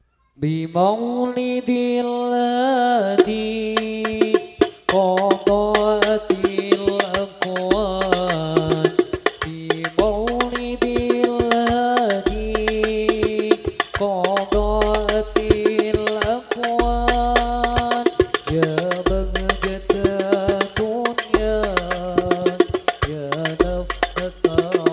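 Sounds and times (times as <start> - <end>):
men singing in unison: 0.4 - 24.9
frame drums beating: 3.2 - 24.9.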